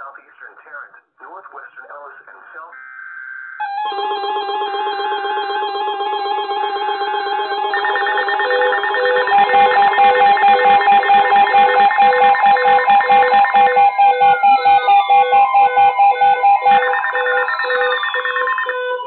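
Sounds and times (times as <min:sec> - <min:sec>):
alert radio alarm beeps: 0:02.7 - 0:19.0.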